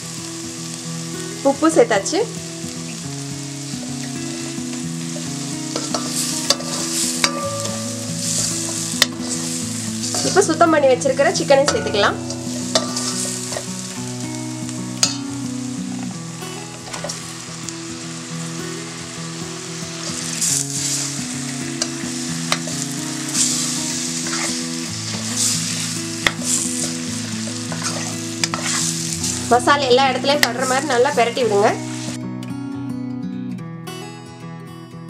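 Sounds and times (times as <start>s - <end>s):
food sizzling in a pan: 0.0s - 32.3s
soft background music: 0.0s - 33.5s.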